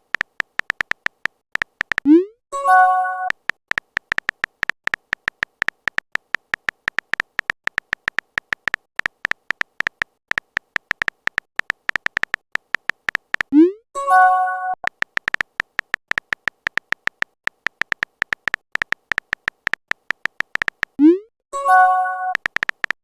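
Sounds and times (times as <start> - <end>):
phone keyboard typing ticks: 0.0 - 23.0.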